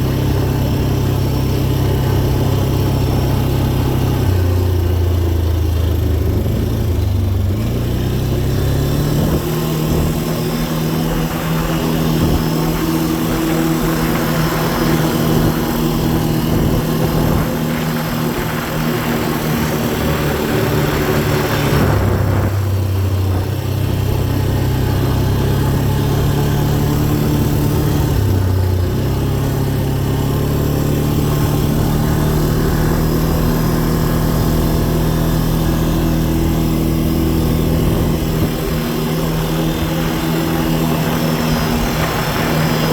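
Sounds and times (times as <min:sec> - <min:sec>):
dirt bike engine running: 0:00.0 - 0:42.9.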